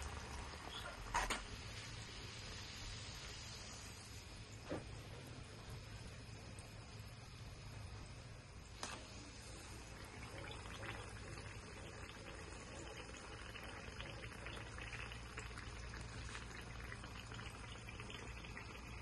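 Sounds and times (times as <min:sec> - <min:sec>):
hot oil sizzling and popping: 0:00.0 - 0:19.0.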